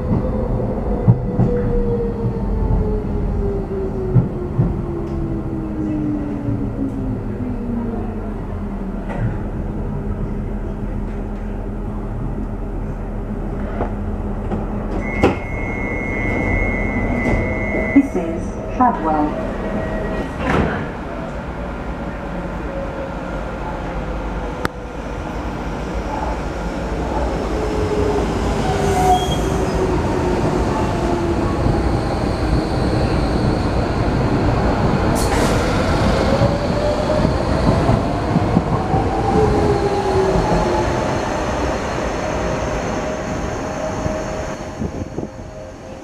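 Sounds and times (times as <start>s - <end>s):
train wheels rumbling on rail: 0.0s - 46.0s.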